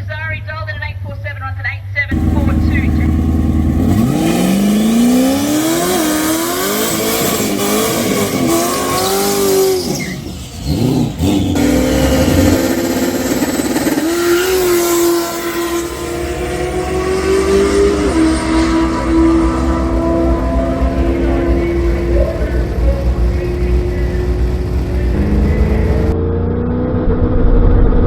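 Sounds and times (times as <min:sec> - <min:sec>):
car engine revving: 0:02.1 - 0:28.0.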